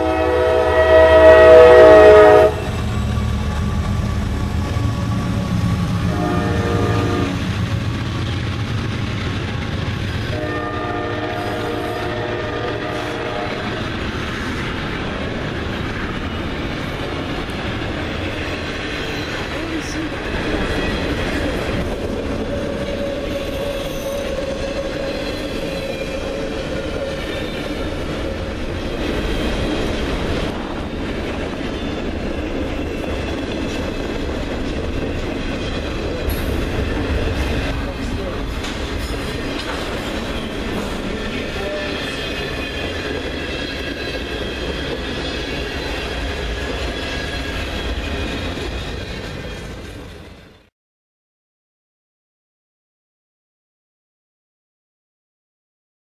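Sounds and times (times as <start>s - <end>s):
freight train wheels rumbling: 0.0s - 50.7s.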